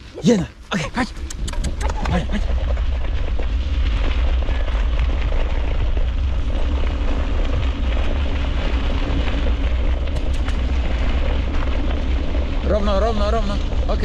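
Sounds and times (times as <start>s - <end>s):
wind rumbling on microphone: 0.0s - 14.0s
tyres crunching over gravel: 1.9s - 14.0s.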